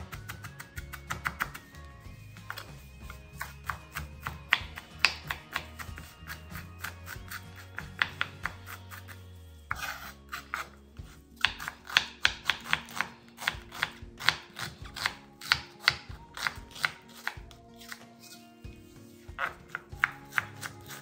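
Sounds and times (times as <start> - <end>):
knife chopping on cutting board: 0.0 - 1.7, 2.5 - 18.3, 19.3 - 21.0
background music: 0.0 - 21.0.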